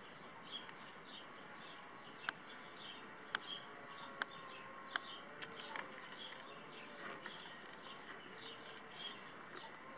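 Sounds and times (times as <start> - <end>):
small birds twittering: 0.0 - 9.9.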